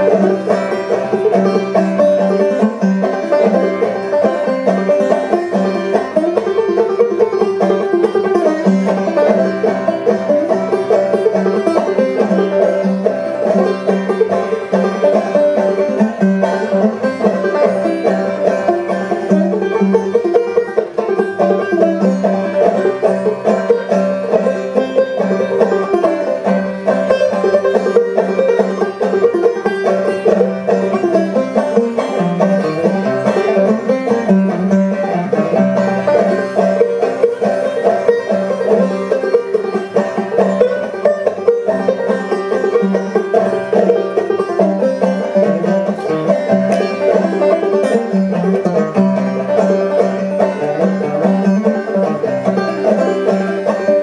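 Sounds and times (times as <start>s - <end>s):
banjo played clawhammer style: 0.0s - 54.0s.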